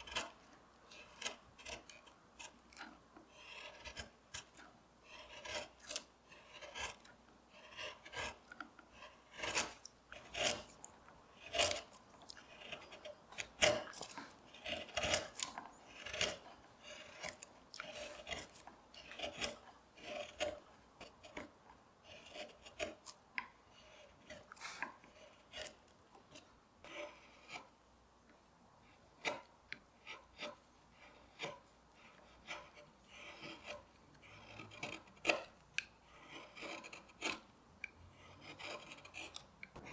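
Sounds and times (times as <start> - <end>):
carving gouge slicing wood: 0.0 - 27.8, 28.8 - 39.9.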